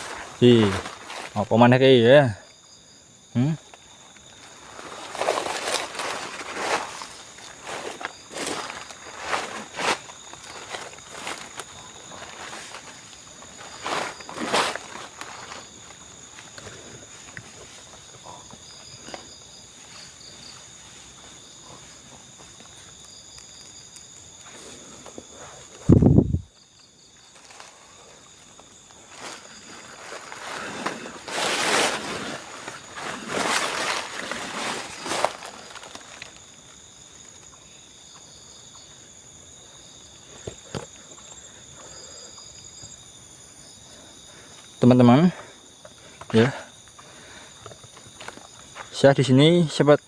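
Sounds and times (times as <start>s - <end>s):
crickets chirping: 0.0s - 50.0s
night insects trilling: 0.0s - 50.0s.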